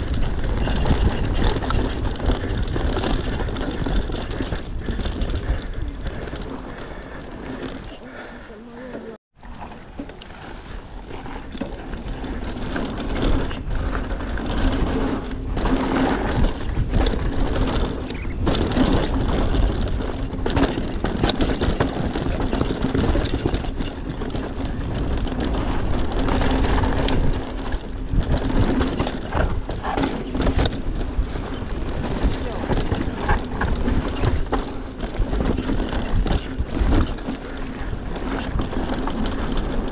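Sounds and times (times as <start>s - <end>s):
wind rumble on microphone: 0.0s - 8.5s, 9.8s - 39.9s
bike rattling over rough ground: 0.0s - 39.9s
tyre noise: 0.0s - 39.9s.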